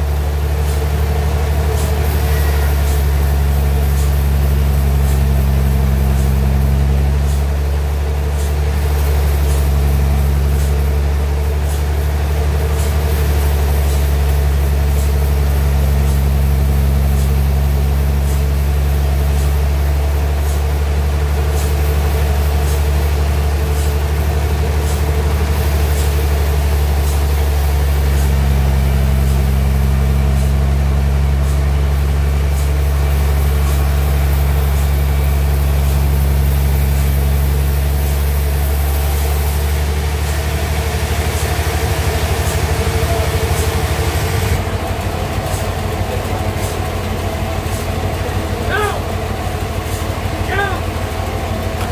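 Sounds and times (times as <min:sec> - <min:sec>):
sawmill engine humming: 0:00.0 - 0:51.9.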